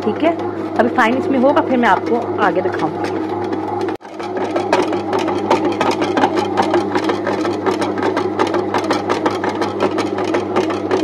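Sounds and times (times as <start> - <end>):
dough kneader motor humming: 0.0 - 11.0.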